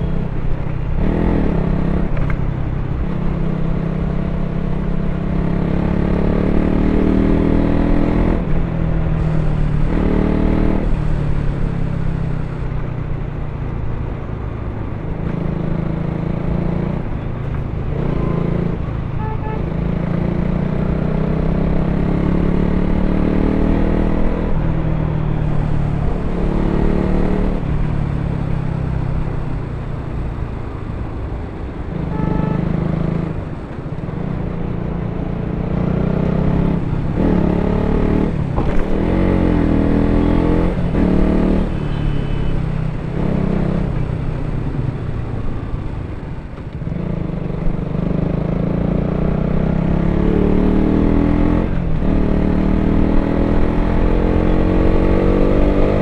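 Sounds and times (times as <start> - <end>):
motorcycle engine revving: 0.0 - 12.6, 15.2 - 46.0, 46.6 - 56.0.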